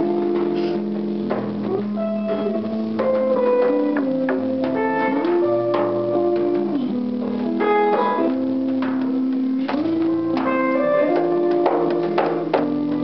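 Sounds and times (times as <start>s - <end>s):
plucked guitar notes and chords: 0.0s - 13.0s
sliding guitar notes: 0.0s - 13.0s.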